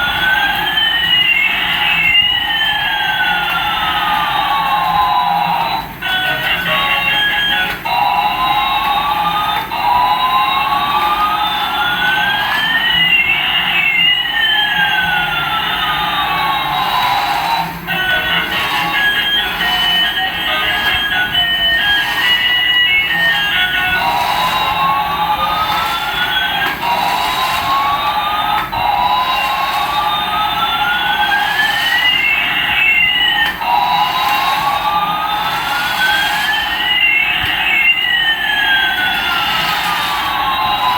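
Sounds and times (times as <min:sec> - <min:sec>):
siren-like electronic tones sliding: 0:00.0 - 0:40.9.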